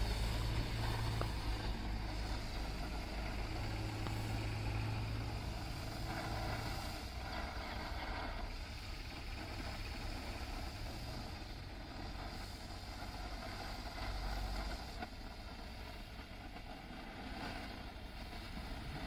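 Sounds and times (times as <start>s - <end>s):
firework hissing: 0.0s - 19.0s
low rumble: 0.0s - 19.0s.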